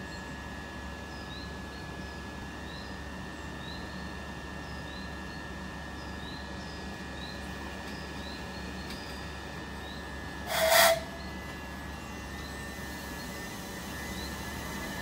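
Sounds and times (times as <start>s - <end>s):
train equipment humming and whining: 0.0s - 15.0s.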